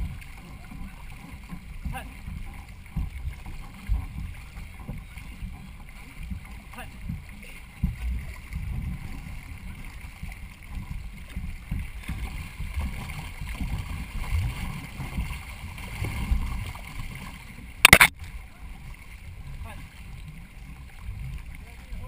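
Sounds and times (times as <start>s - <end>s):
water splashing along canoe: 0.0s - 22.0s.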